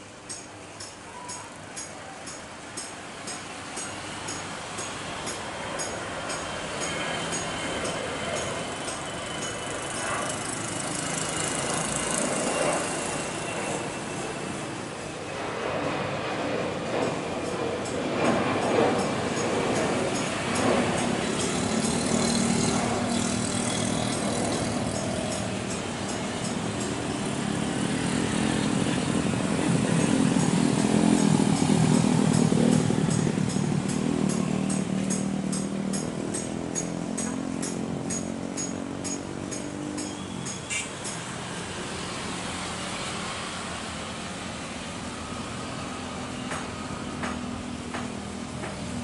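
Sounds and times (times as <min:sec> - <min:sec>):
airliner engines roaring: 0:00.0 - 0:49.0.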